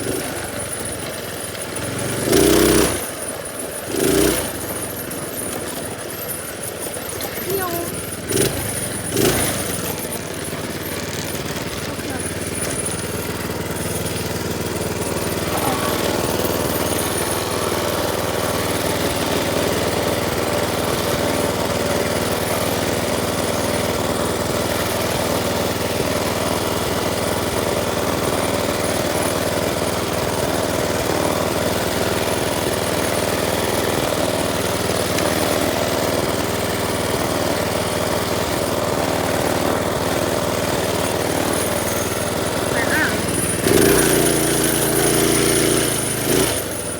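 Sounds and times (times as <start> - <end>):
minibike engine running: 0.0 - 46.9.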